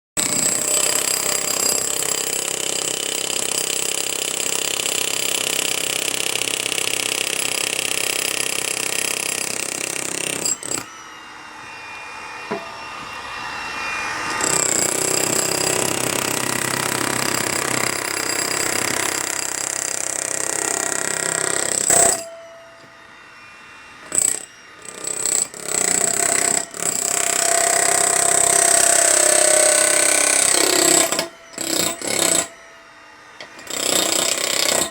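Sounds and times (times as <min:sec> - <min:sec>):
jackhammer breaking concrete: 0:00.2 - 0:10.9, 0:14.4 - 0:22.3, 0:24.1 - 0:32.5, 0:33.6 - 0:34.9.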